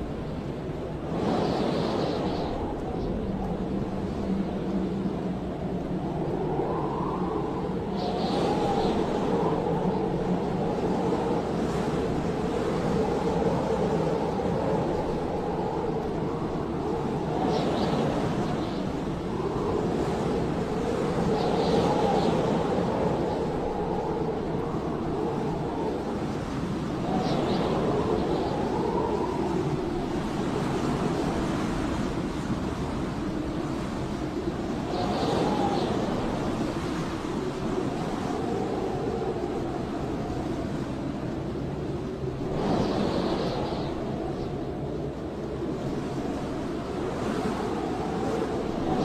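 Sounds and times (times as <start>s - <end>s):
howling blizzard wind: 0.0s - 49.0s
faint high whistles: 1.2s - 4.6s, 5.7s - 11.9s, 12.7s - 32.0s, 32.8s - 40.8s, 42.1s - 49.0s.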